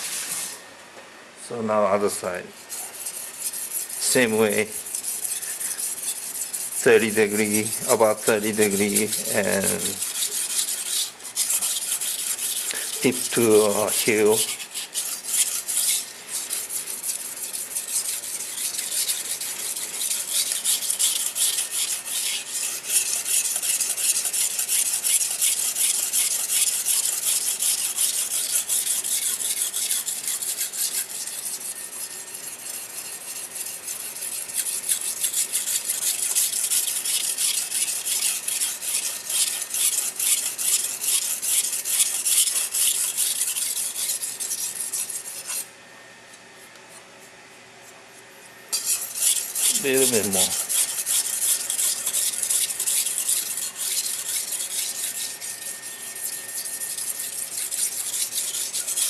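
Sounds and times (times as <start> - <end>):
knife sharpening on whetstone: 2.7 - 7.0, 7.6 - 45.7, 48.7 - 59.0.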